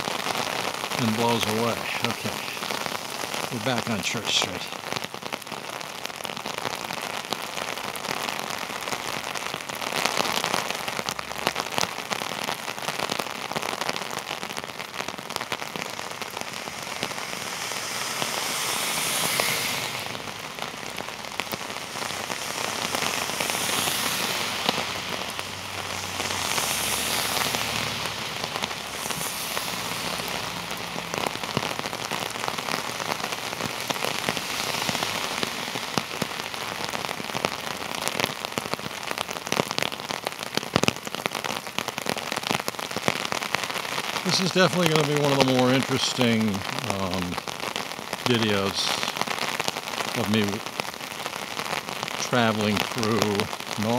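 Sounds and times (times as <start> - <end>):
heavy rain on an umbrella: 0.0 - 53.9.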